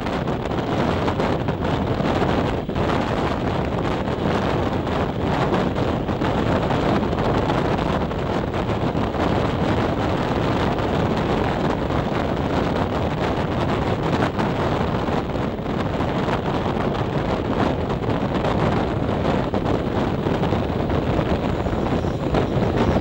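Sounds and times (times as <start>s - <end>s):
passenger train running at speed: 0.0s - 23.0s
wind buffeting the microphone: 0.0s - 23.0s.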